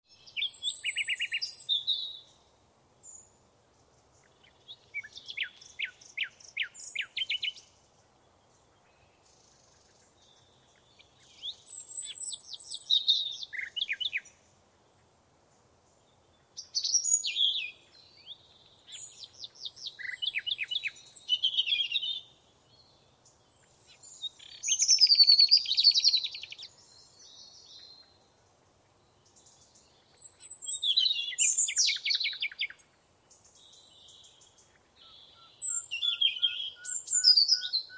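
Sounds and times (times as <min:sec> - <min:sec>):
songbirds singing with trills: 0:00.0 - 0:37.9.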